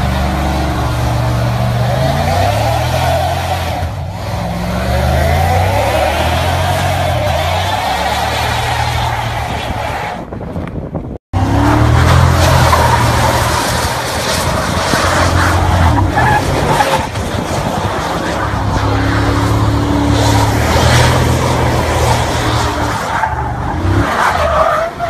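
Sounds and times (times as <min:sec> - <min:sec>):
engine at high revs: 0:00.0 - 0:09.9, 0:11.4 - 0:25.0
tyres skidding: 0:00.0 - 0:25.0.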